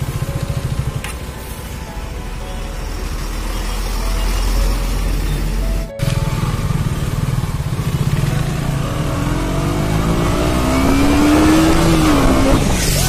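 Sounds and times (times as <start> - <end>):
motorcycle engine accelerating: 2.5 - 13.0.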